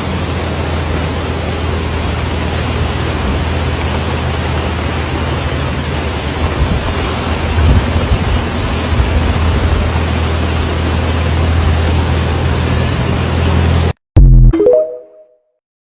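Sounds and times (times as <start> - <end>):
loud rush of floodwater: 0.0 - 14.0.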